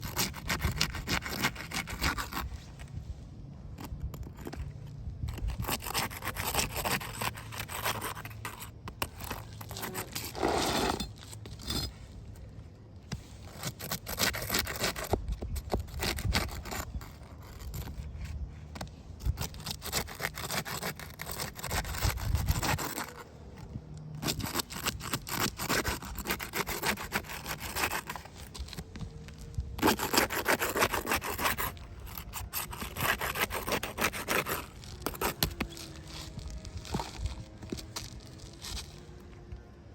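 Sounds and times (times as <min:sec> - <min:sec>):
scraping and rubbing: 0:00.0 - 0:03.0, 0:03.7 - 0:12.5, 0:13.1 - 0:39.5.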